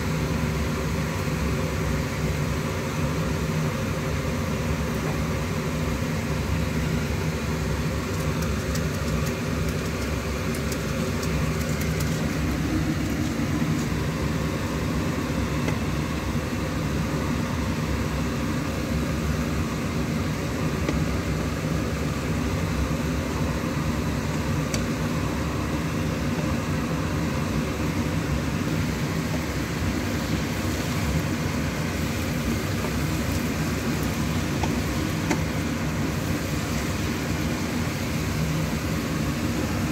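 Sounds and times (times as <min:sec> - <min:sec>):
food frying in a pan: 0:00.0 - 0:39.9
low mechanical drone: 0:00.0 - 0:39.9.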